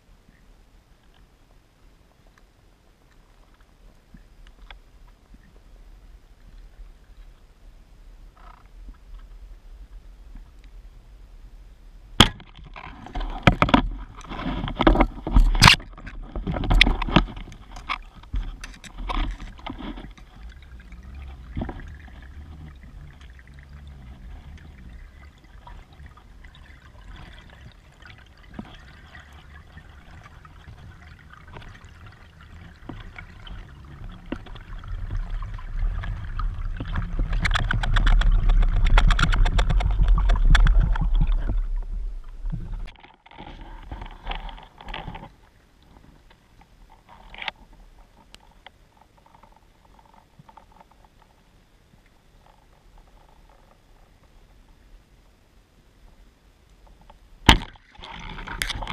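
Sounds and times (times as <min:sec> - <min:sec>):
water sloshing and rushing: 0:02.0 - 0:55.5, 0:56.8 - 0:58.9.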